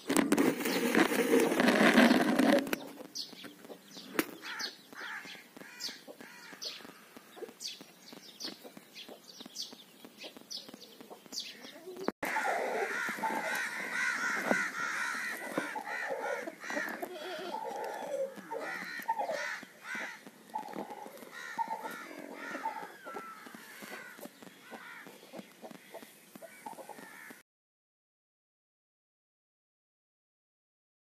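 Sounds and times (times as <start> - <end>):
birds calling: 0.1 - 27.4.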